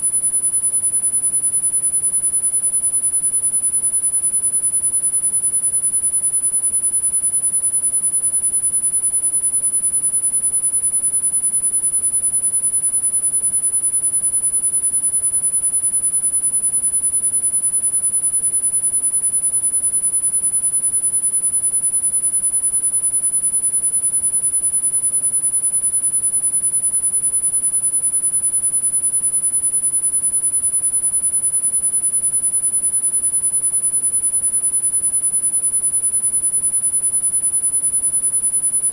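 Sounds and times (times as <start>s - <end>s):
high-pitched sine tone: 0.0s - 38.9s.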